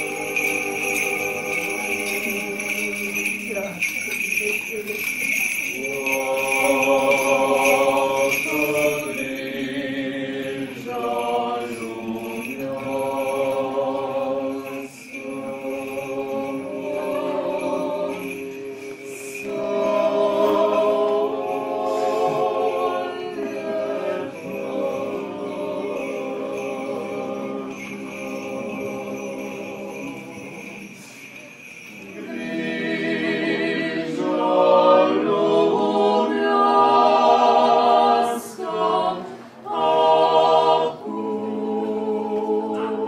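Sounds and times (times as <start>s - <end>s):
vocal group chanting: 0.0s - 3.5s, 5.3s - 31.0s, 31.9s - 43.0s
censer bells jingling: 0.0s - 34.7s.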